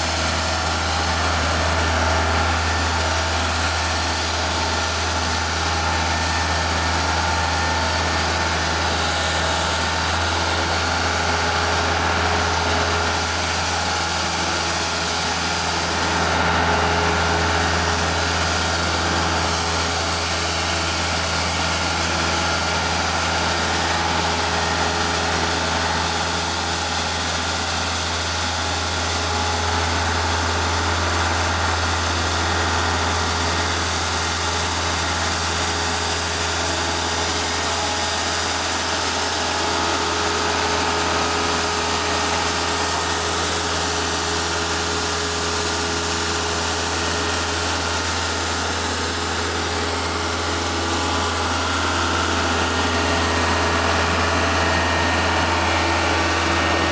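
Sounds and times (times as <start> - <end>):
loader engine running: 0.0 - 56.9.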